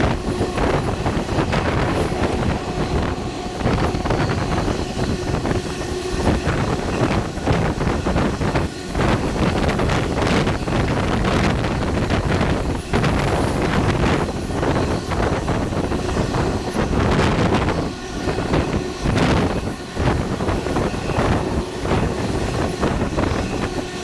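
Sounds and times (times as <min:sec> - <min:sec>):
train rumble: 0:00.0 - 0:24.0
wind buffeting microphone: 0:00.0 - 0:24.0.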